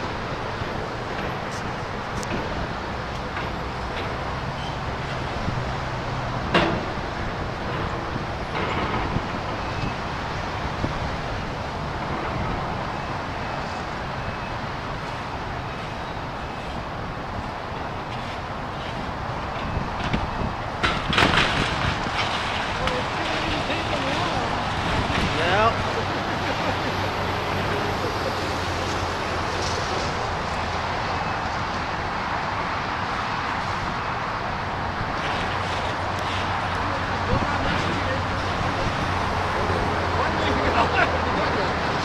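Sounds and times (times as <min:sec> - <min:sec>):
outdoor rumble and hiss: 0:00.0 - 0:42.0.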